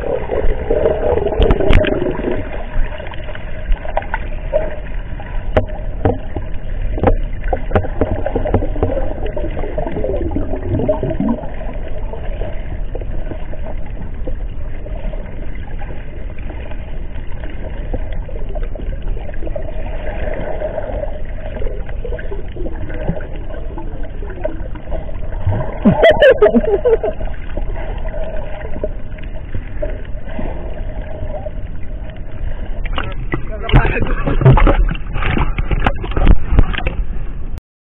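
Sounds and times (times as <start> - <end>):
gurgling bubbles: 0.0 - 37.0
muffled underwater rush of water: 0.0 - 37.6.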